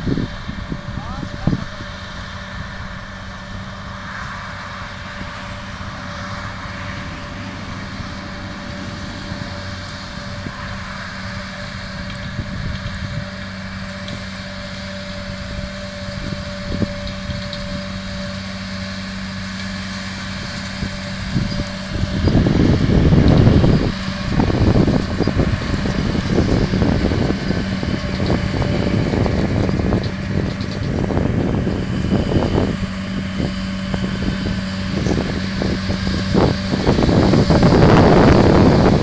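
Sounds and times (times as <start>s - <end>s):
tractor and forage wagon drone: 0.0s - 39.0s.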